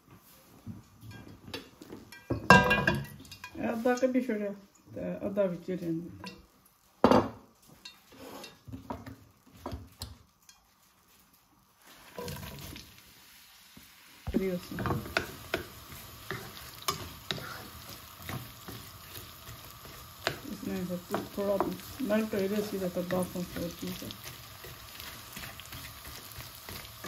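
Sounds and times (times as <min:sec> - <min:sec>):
stirring clicks and scrapes in pan: 0:00.8 - 0:04.9, 0:06.2 - 0:06.8, 0:07.6 - 0:13.0, 0:14.3 - 0:27.0
onions sizzling in hot oil: 0:01.0 - 0:06.8, 0:07.8 - 0:27.0.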